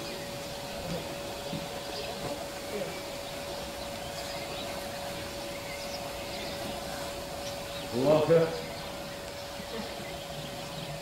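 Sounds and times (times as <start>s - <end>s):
faint distant voices: 0.0s - 11.0s
faint hum: 0.0s - 11.0s
steady hiss: 0.0s - 11.0s.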